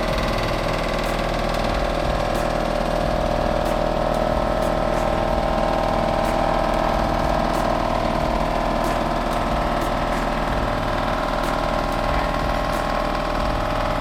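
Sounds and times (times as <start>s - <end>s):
machine motor whining: 0.0s - 14.0s.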